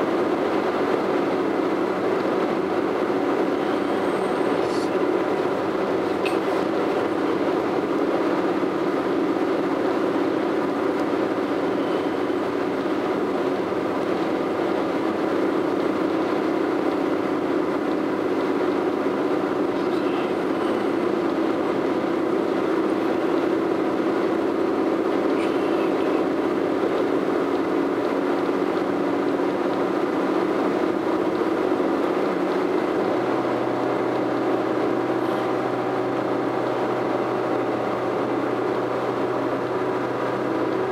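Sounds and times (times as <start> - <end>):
car engine hum: 0.0 - 40.9
low hum: 0.0 - 40.9
road and tyre noise: 0.0 - 40.9.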